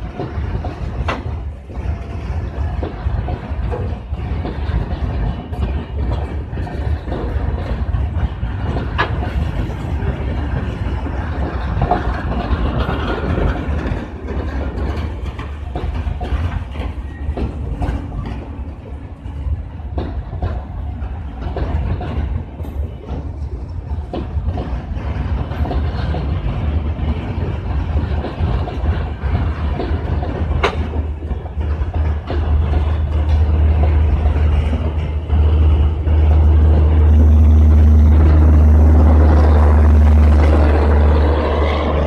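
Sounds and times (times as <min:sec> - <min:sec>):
train wheels rumbling on rails: 0:00.0 - 0:42.0
wheels clicking over rail joints: 0:00.0 - 0:42.0.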